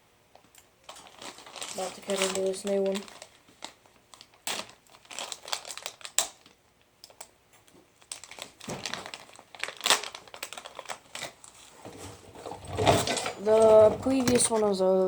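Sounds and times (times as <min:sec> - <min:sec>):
plastic packaging crinkling: 0:00.8 - 0:07.3, 0:07.9 - 0:14.8.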